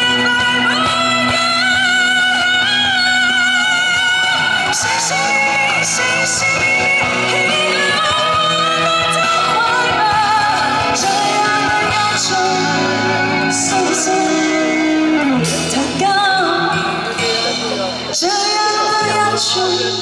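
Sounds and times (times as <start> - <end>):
guitar playing: 0.0 - 20.0
live pop-rock band: 0.0 - 20.0
person singing: 0.0 - 20.0.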